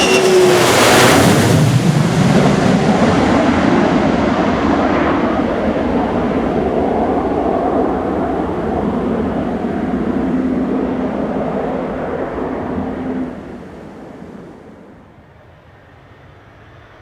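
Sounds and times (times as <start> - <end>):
droning tone: 0.0 - 4.2, 4.9 - 14.9
jet engines rumbling: 0.0 - 15.2.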